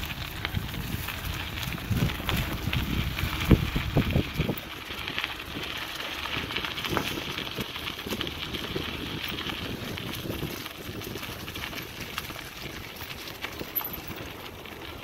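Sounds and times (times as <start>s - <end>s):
dry leaves crackling: 0.0s - 15.0s.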